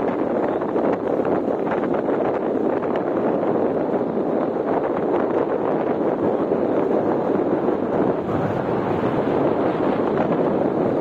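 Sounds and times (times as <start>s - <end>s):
rushing wind: 0.0s - 11.0s
vehicle road noise: 0.0s - 11.0s
wind buffeting microphone: 0.0s - 11.0s.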